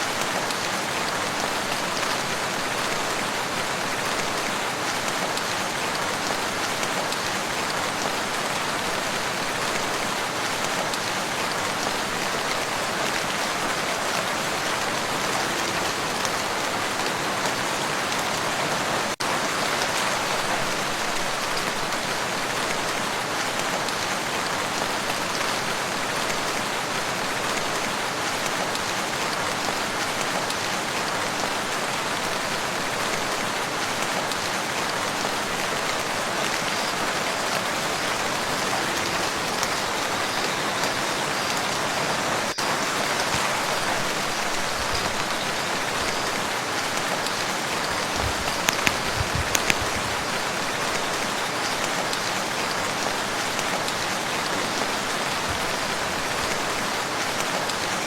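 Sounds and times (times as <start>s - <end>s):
rain falling on a lake: 0.0s - 58.0s.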